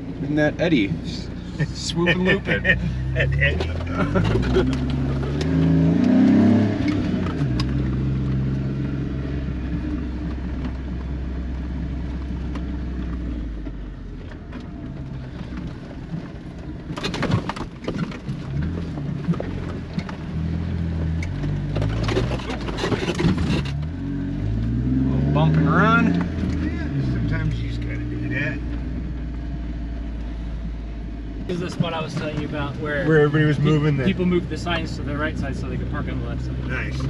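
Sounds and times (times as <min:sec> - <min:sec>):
car engine running: 0:00.0 - 0:37.0.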